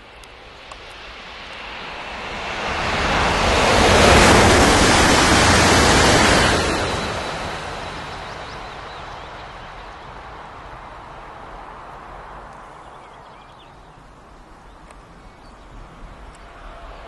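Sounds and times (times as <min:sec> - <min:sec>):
high-speed train passing: 0:00.0 - 0:13.0, 0:15.6 - 0:17.0.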